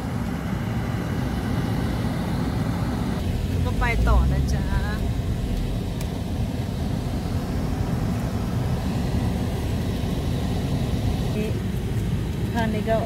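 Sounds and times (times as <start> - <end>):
car driving heard from cabin: 0.0 - 13.0.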